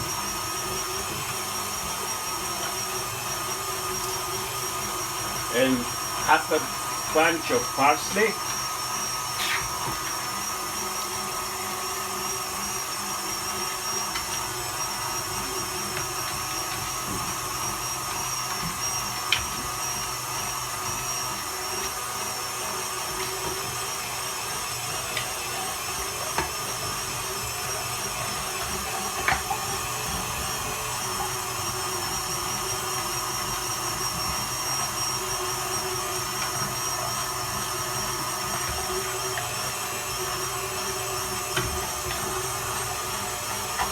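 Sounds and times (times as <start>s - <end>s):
electric meat grinder running: 0.0s - 43.9s.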